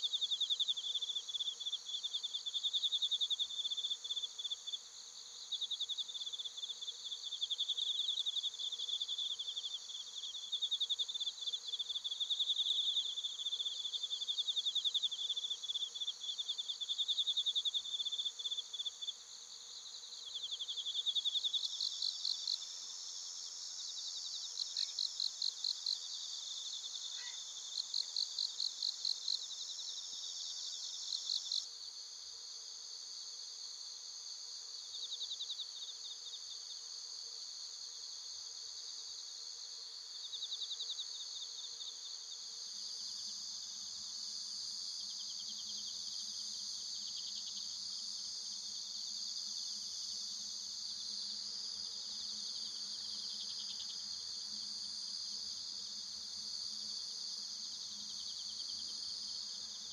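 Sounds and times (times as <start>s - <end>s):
crickets chirping and trilling: 0.0s - 59.9s
insect rhythmic chirps: 0.0s - 59.9s.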